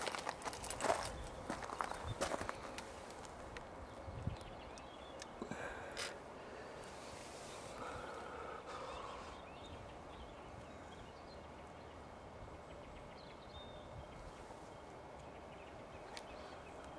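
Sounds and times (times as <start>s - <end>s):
low outdoor rumble: 0.0s - 16.9s.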